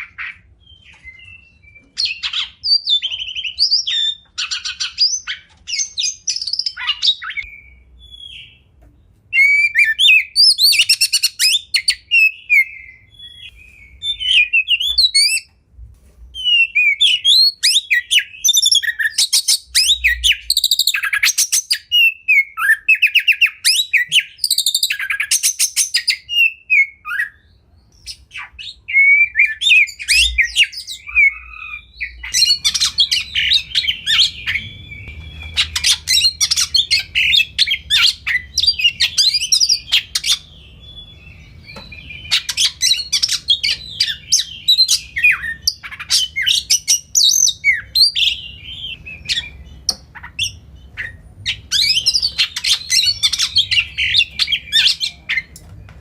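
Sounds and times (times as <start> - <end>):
magpie-robin singing: 0.0 - 15.5, 16.3 - 55.6.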